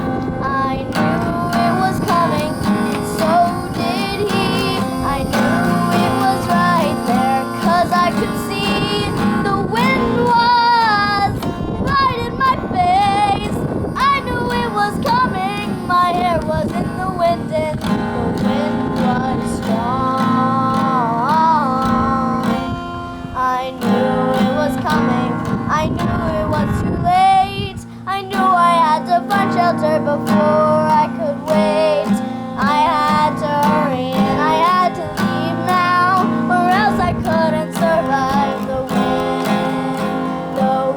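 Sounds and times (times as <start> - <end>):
acoustic guitar: 0.0 - 40.9
girl singing: 0.0 - 40.9.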